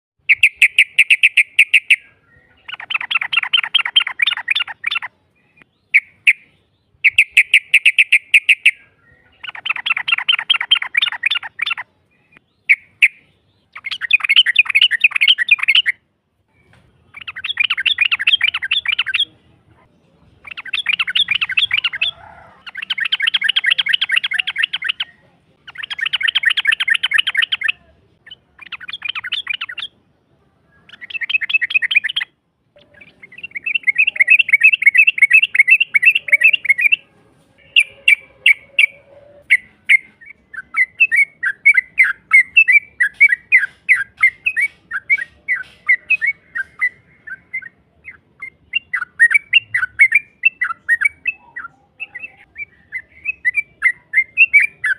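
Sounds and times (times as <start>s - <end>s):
bulbul rolling chatter calls: 0.2s - 16.0s, 16.6s - 30.0s, 30.7s - 54.9s.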